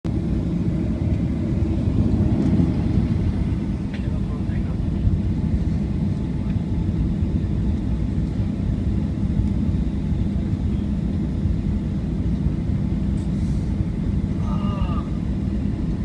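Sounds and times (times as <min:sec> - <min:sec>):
jet engines rumbling: 0:00.1 - 0:16.0.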